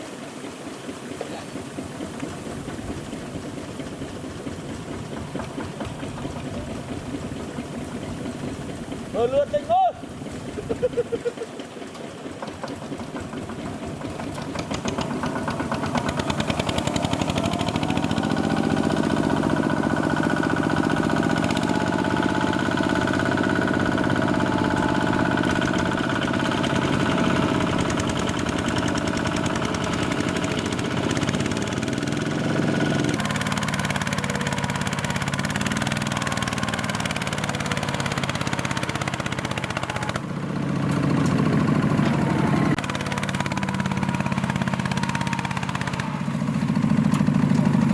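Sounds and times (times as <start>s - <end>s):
diesel engine running under load: 0.2s - 47.9s.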